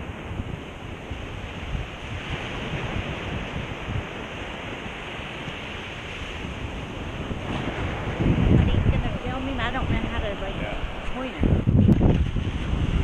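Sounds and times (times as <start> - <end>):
surf waves breaking on shore: 0.0 - 13.0
wind buffeting microphone: 0.0 - 13.0.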